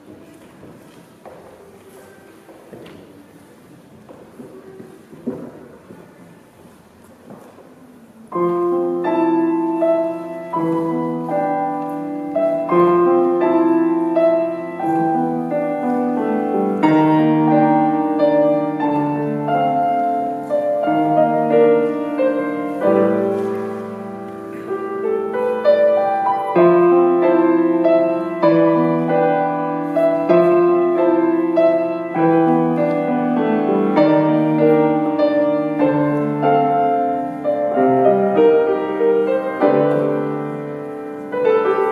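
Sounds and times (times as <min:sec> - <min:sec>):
grand piano classical piece: 0:00.0 - 0:41.9.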